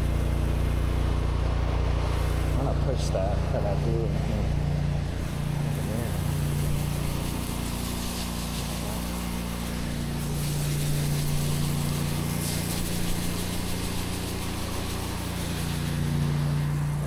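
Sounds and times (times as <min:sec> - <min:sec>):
pressure washer engine running: 0:00.0 - 0:17.0.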